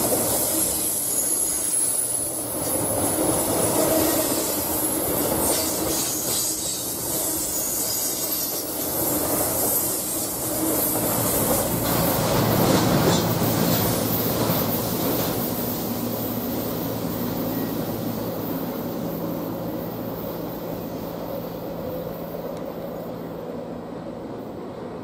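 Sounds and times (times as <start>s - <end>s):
freight train wheels clacking: 0.0s - 22.9s.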